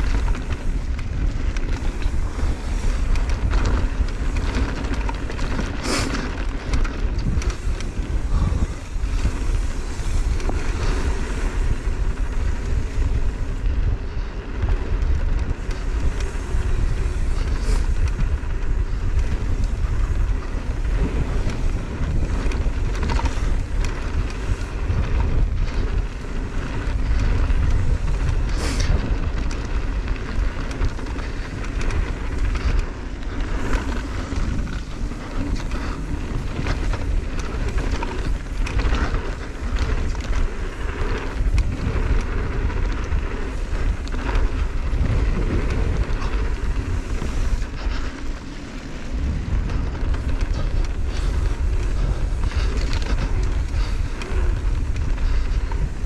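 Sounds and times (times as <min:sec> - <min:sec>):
bike rattling: 0:00.0 - 0:56.0
tyres rumbling over dirt: 0:00.0 - 0:56.0
wind rushing over microphone: 0:00.0 - 0:56.0.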